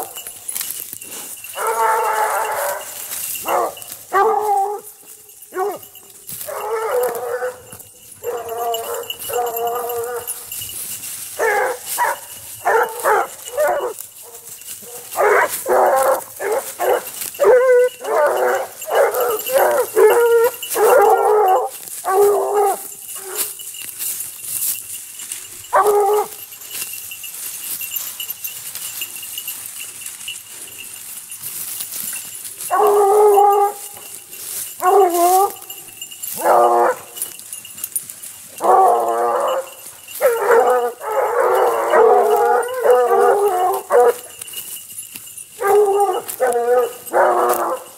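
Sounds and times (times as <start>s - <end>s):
hounds baying: 0.0s - 47.9s.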